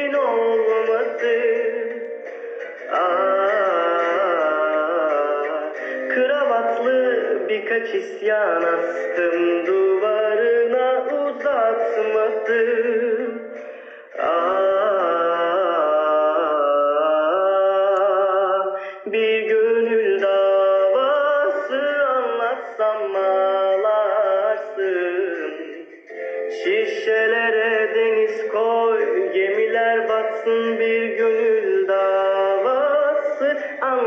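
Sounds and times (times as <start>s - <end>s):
man singing slow melody: 0.0s - 34.0s.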